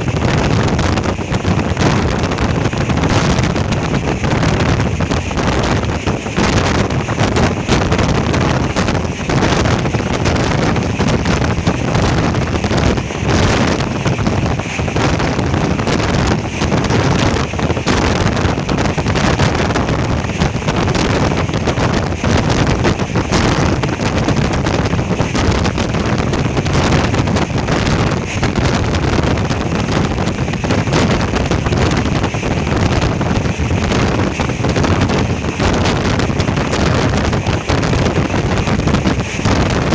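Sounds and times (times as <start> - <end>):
loud steady rushing noise: 0.0 - 39.9
wind buffeting microphone: 0.0 - 39.9.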